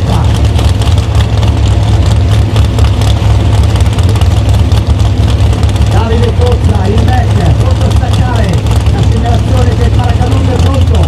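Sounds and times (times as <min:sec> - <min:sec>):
racing car engine low rumble: 0:00.0 - 0:11.0.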